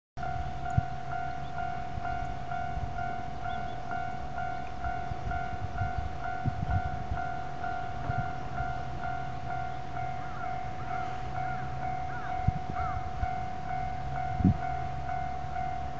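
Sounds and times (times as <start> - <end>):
level crossing warning bell: 0.2 - 15.9.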